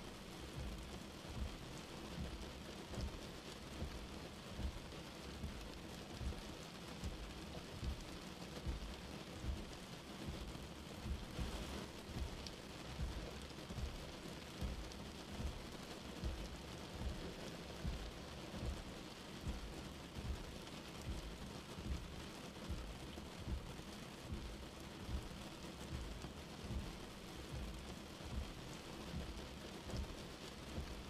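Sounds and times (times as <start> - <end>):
steady rain: 0.0 - 31.0
soft low thumps: 0.2 - 31.0.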